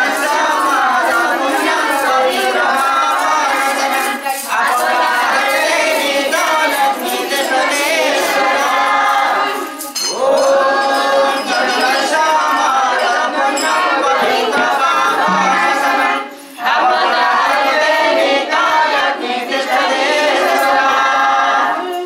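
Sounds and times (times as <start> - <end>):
jingling hand percussion: 0.0 - 22.0
several voices singing: 0.0 - 22.0.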